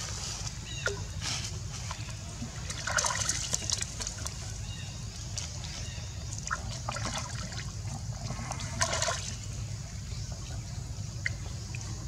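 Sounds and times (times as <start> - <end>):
pool water trickling and lapping: 0.0 - 12.0
water splashes: 1.8 - 12.0.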